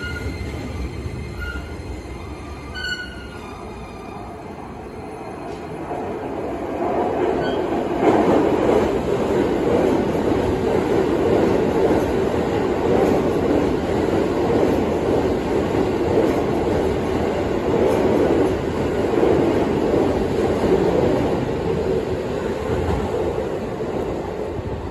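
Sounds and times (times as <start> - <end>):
train wheels on rails: 0.0 - 24.9.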